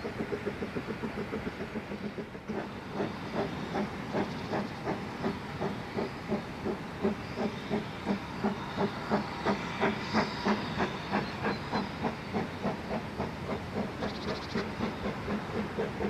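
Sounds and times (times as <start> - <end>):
steam locomotive exhaust beats: 0.0 - 16.0.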